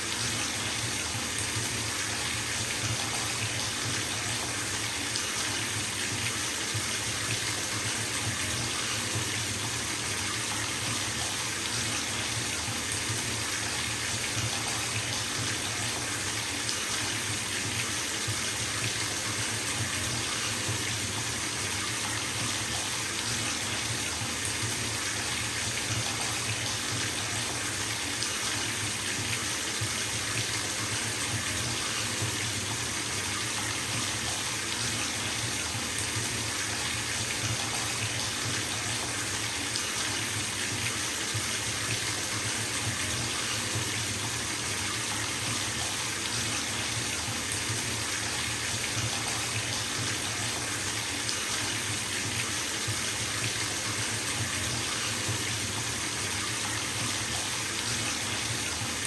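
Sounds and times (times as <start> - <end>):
tap water filling bathtub: 0.0 - 59.0.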